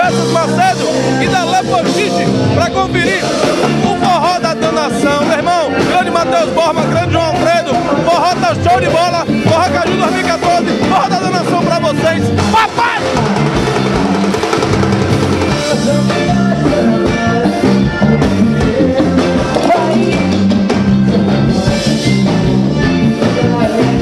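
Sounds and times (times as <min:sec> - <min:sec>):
accordion: 0:00.0 - 0:24.0
bass guitar: 0:00.0 - 0:24.0
drum kit beat: 0:00.0 - 0:24.0.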